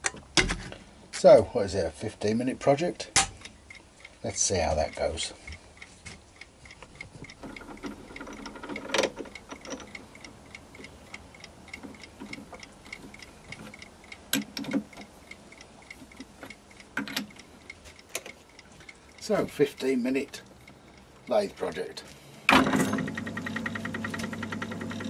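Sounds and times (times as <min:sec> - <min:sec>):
mechanical timer ticking: 0:02.0 - 0:25.0.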